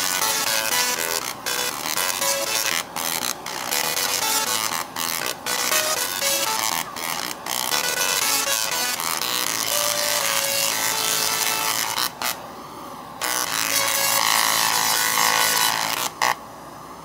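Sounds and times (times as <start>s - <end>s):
tesla coil arcs buzzing notes: 0.0s - 12.5s, 13.2s - 16.4s.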